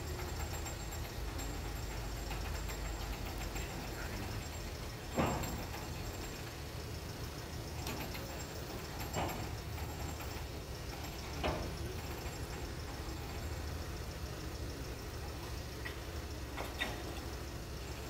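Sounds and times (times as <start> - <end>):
street ambience rumble: 0.0 - 18.0.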